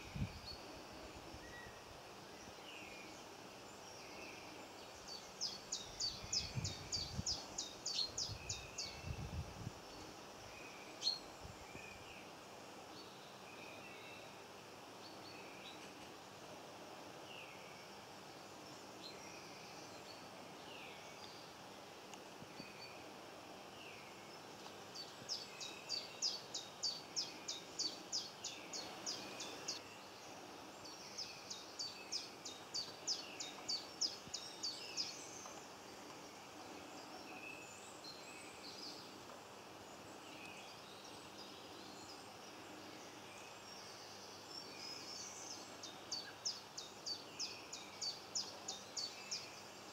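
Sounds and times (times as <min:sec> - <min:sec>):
birds chirping faintly: 0:00.0 - 0:49.9.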